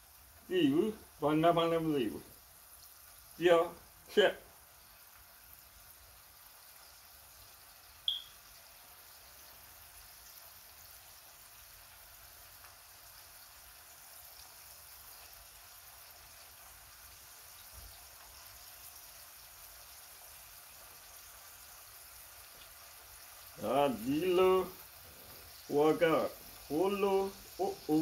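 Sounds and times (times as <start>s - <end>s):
food frying in oil: 0.0s - 28.0s.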